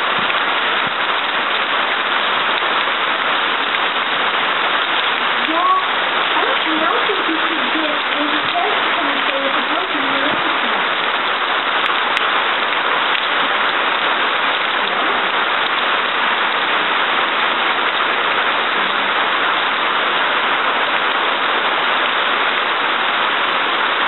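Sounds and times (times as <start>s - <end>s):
heavy rain on lawn and trees: 0.0s - 24.0s.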